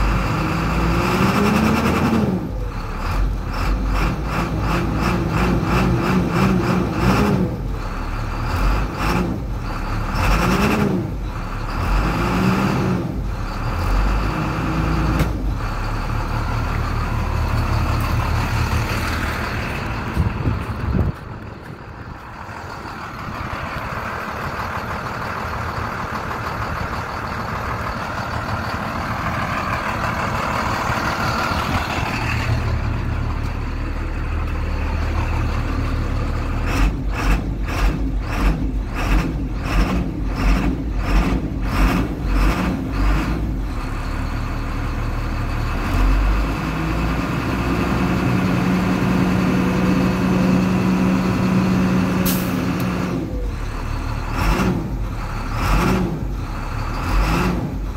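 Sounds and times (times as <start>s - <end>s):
bus engine drone: 0.0s - 57.9s.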